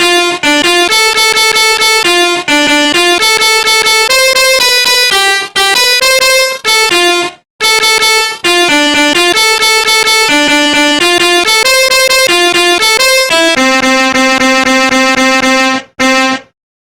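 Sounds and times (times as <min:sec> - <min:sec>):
phone ringtone melody: 0:00.1 - 0:16.4.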